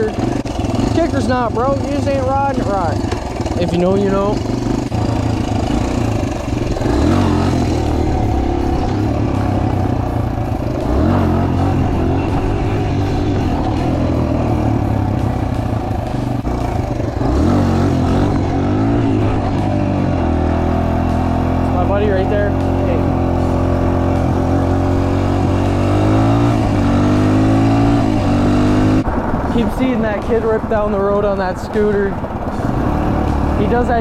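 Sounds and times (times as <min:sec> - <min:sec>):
motorbike engine accelerating: 0:00.0 - 0:34.0.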